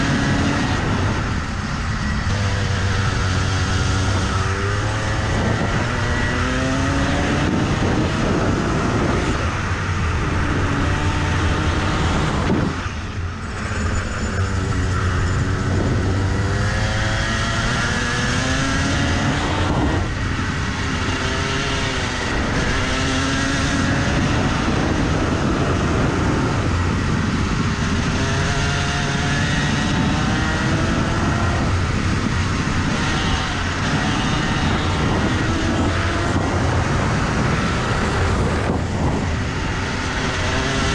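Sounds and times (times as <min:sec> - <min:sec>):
kart engine at full throttle: 0:00.0 - 0:40.9.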